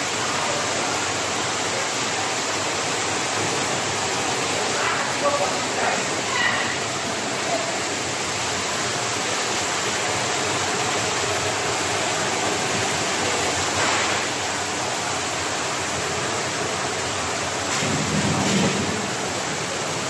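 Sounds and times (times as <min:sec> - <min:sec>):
water rushing and churning: 0:00.0 - 0:20.0.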